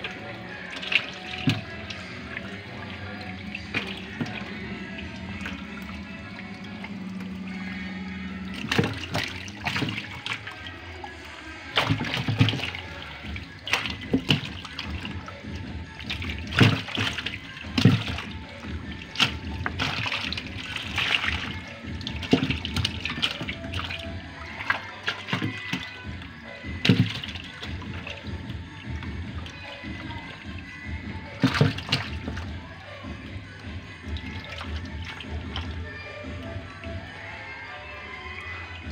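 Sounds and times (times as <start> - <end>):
fish splashing in a bucket: 0.0 - 38.9.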